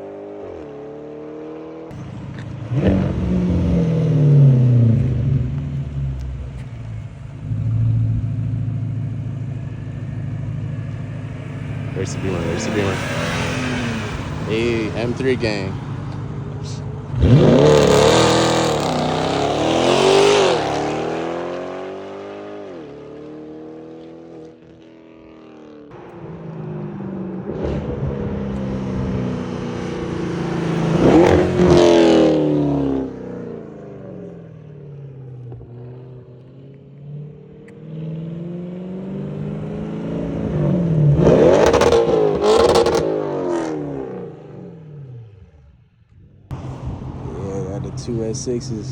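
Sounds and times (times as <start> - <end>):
cars with loud exhausts passing: 0.0 - 48.9.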